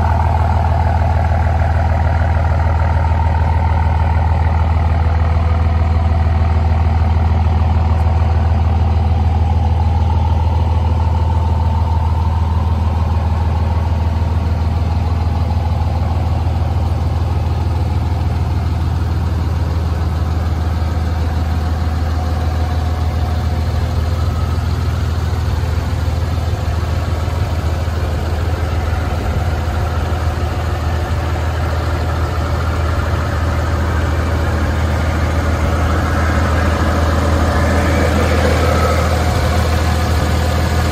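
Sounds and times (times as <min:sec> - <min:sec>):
pickup engine idling: 0:00.0 - 0:40.9.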